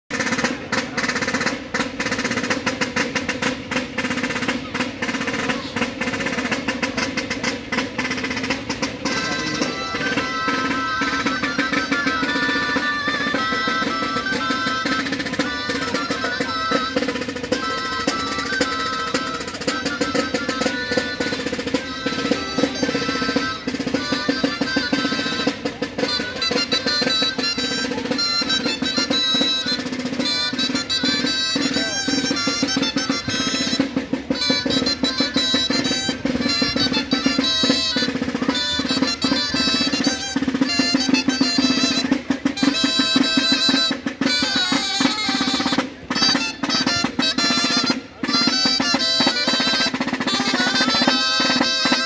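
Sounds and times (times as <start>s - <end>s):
high-pitched melody instrument: 0.1s - 52.0s
snare drum rolls: 0.1s - 52.0s.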